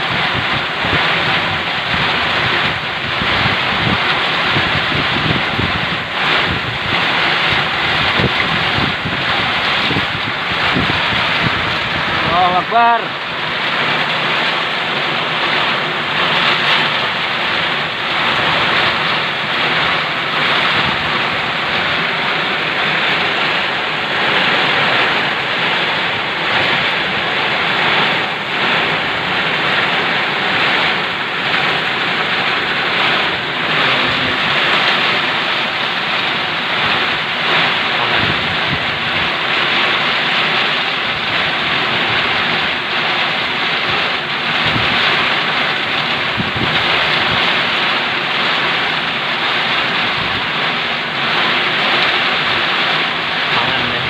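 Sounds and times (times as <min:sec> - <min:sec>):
wind buffeting microphone: 0:00.0 - 0:12.6, 0:13.6 - 0:43.1, 0:43.7 - 0:47.9, 0:49.8 - 0:50.7
heavy rain pouring: 0:00.0 - 0:54.0.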